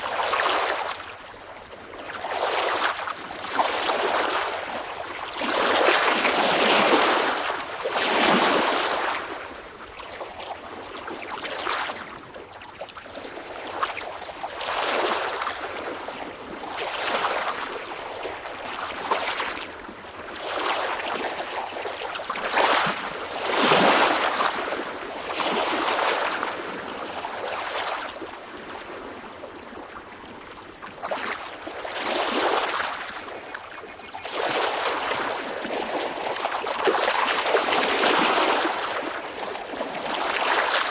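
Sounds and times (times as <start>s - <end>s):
small waves splashing: 0.0s - 40.9s.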